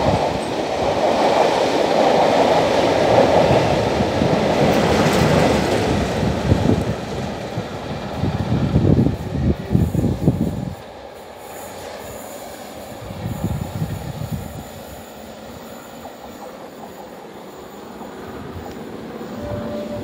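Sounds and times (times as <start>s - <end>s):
diesel train rumbling away: 0.0s - 20.0s.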